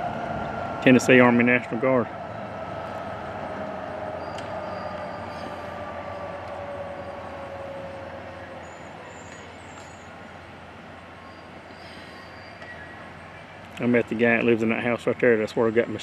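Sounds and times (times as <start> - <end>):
heavy truck driving past: 0.0 - 14.0.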